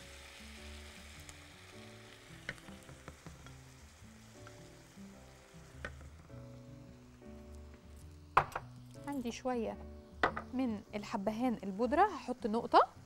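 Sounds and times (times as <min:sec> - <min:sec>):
filling sizzling in a frying pan: 0:00.0 - 0:13.0.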